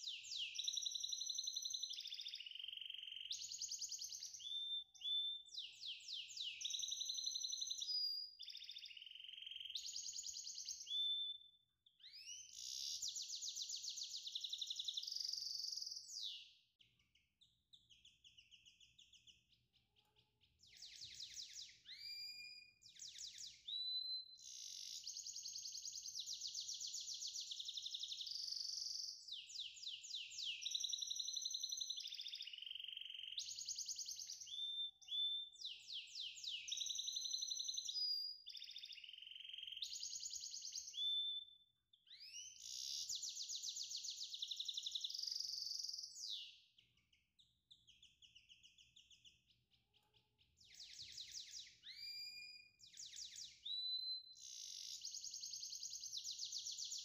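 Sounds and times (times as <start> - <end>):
songbird trilling and whistling: 0.0 - 19.7, 20.5 - 49.7, 50.4 - 57.0.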